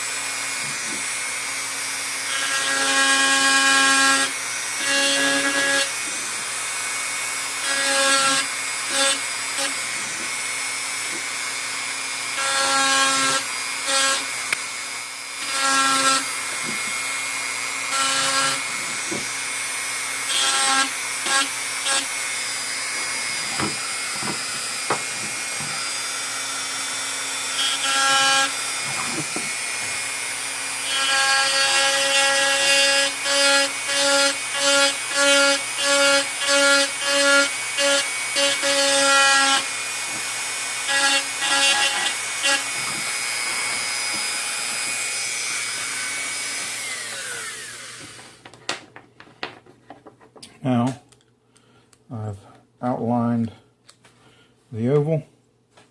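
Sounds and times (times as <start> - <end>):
rotary carving tool whining: 0.0 - 48.8.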